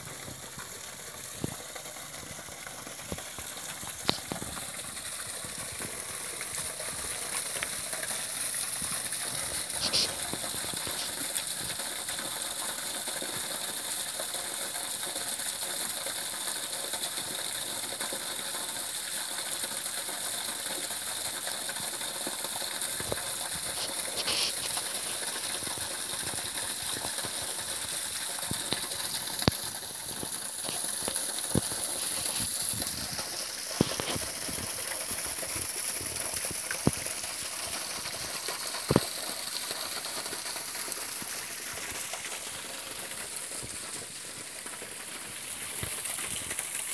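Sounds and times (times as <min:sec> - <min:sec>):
stream water running: 0:00.0 - 0:46.9.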